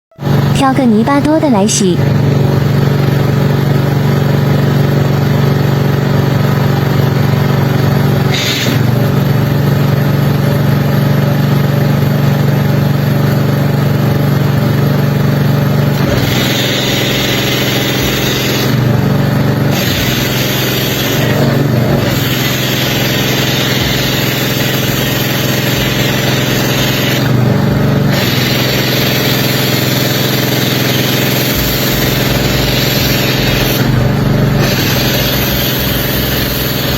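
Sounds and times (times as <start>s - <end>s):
engine running steadily: 0.2s - 0.6s, 1.9s - 36.9s.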